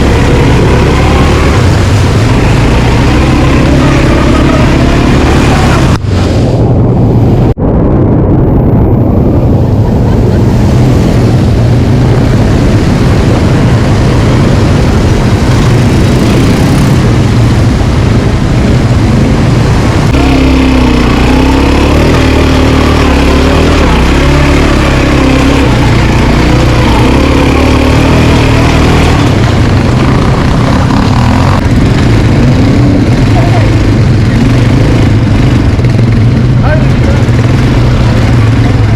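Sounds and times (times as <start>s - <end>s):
quad bike engine running: 0.0s - 6.0s, 9.8s - 38.9s.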